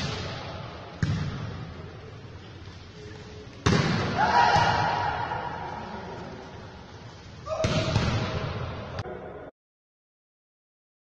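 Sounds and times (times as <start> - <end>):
football struck in echoing hall: 0.0 - 2.4, 3.0 - 9.5.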